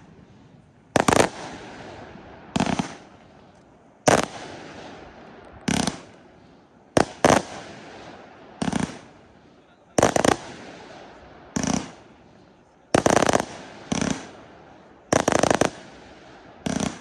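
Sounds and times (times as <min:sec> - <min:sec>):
fireworks bangs with crackling hiss: 0:00.0 - 0:17.0.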